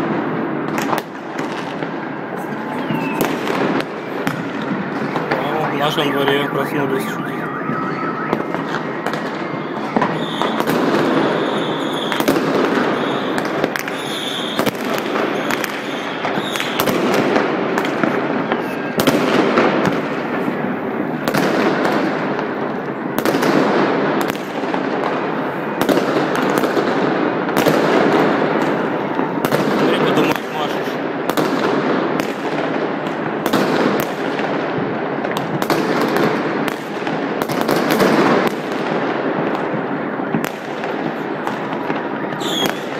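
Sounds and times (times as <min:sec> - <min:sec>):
fireworks crackling and banging: 0:00.0 - 0:42.9
sharp loud firework reports: 0:00.0 - 0:42.9.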